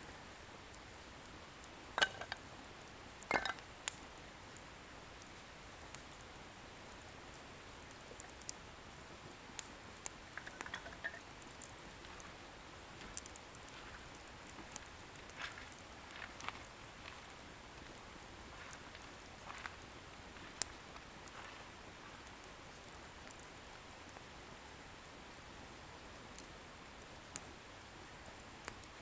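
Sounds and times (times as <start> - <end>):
bonfire hissing: 0.0 - 29.0
firewood crackling and popping: 0.1 - 29.0.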